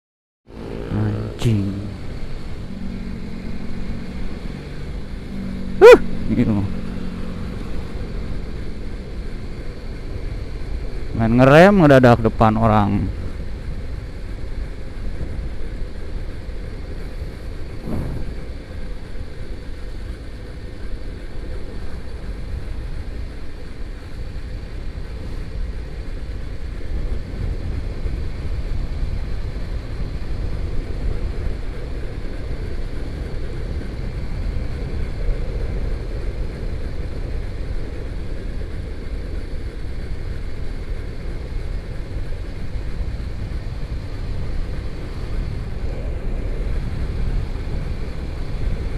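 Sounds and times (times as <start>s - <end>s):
motorcycle engine running: 0.5s - 12.4s, 13.0s - 48.9s
wind rush on microphone: 2.0s - 48.9s.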